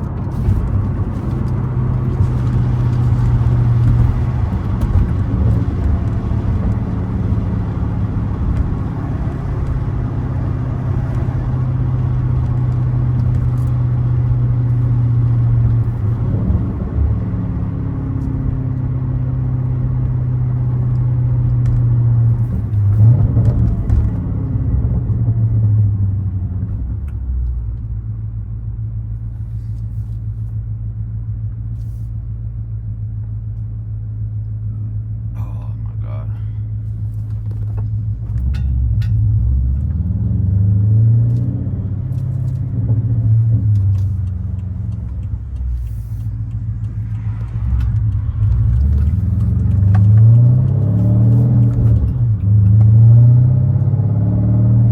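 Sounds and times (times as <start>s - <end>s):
car engine deep drone: 0.0s - 54.9s.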